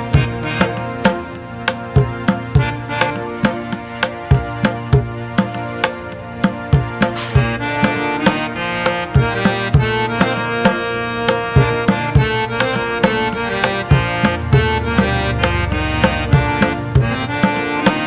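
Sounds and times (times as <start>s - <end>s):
drum strikes: 0.0s - 18.0s
held melodic notes: 0.0s - 18.0s.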